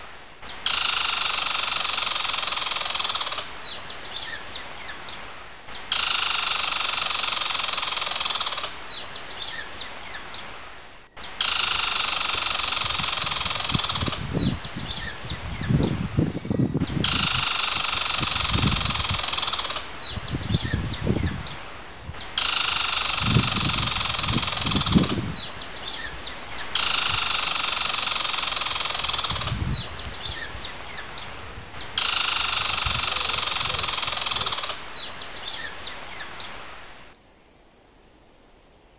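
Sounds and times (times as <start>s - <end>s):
small birds chirping: 0.0s - 37.2s
steady high hiss: 0.0s - 38.9s.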